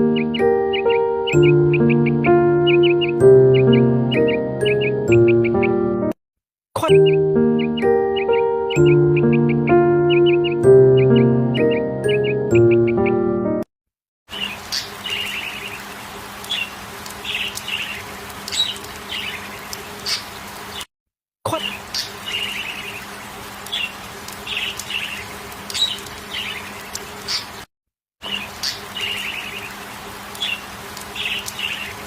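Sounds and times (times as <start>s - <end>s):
small birds chirping: 0.0s - 5.8s, 6.8s - 13.2s, 14.3s - 20.9s, 21.5s - 32.0s.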